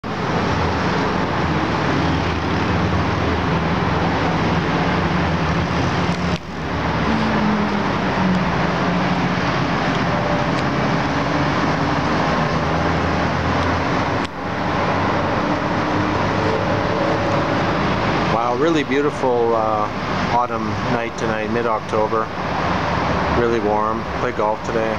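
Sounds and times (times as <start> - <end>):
city traffic hum: 0.0 - 24.9.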